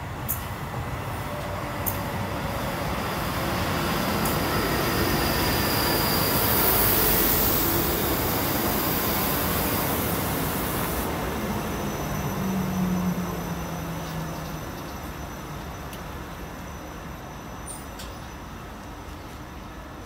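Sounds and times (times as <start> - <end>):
train wheels rushing past: 0.3 - 18.5
faint high whine: 3.2 - 19.8.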